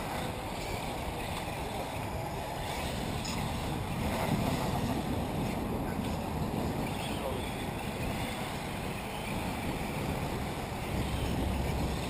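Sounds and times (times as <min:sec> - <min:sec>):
distant rc cars racing: 0:00.0 - 0:12.0
wind rumble on microphone: 0:00.0 - 0:12.0.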